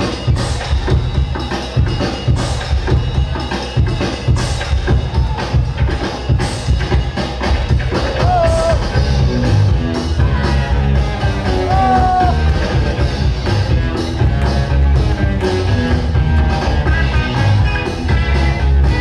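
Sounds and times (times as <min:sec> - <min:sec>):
music with heavy bass beat: 0:00.0 - 0:19.0.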